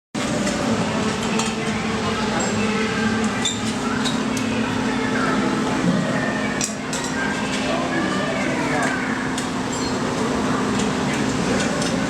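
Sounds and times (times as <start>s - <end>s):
low mechanical hum: 0.2s - 12.0s.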